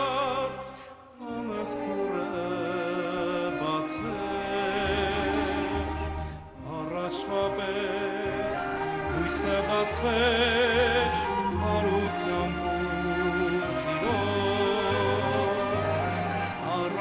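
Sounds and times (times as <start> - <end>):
instrumental accompaniment: 1.2 - 17.0.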